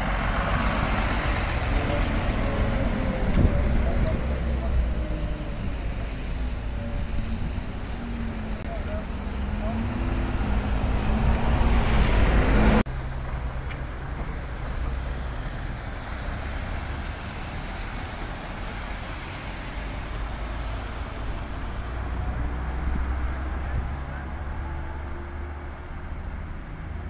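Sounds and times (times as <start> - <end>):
bus diesel engine pulling away: 0.0 - 27.0
road traffic: 0.0 - 27.0.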